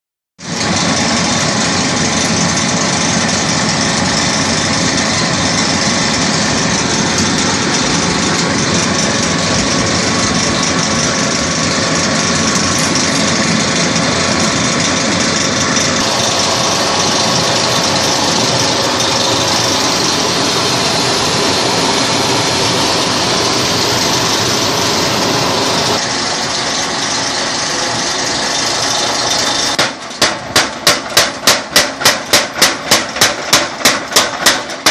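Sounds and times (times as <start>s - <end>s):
workshop machinery running: 0.4s - 34.9s.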